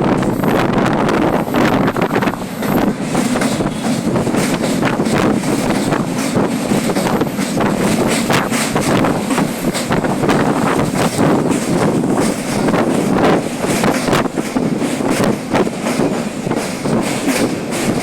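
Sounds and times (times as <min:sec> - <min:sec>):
train coaches rumbling: 0:00.0 - 0:18.0
wind buffeting microphone: 0:00.0 - 0:18.0
rattles and knocks: 0:02.8 - 0:18.0.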